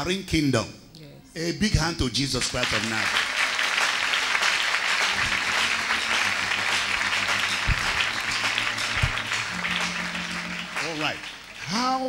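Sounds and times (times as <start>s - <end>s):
crowd clapping: 2.3s - 12.0s.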